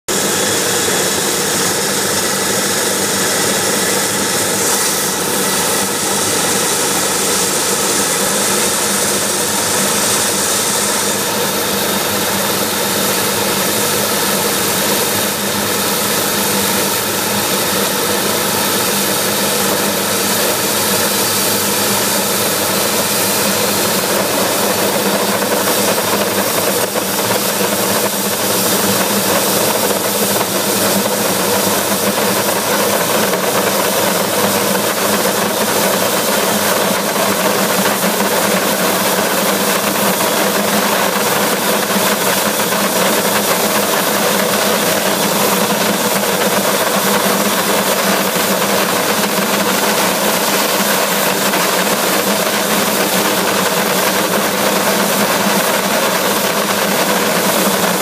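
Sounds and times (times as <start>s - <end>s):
turbojet engine roaring: 0.1s - 58.0s.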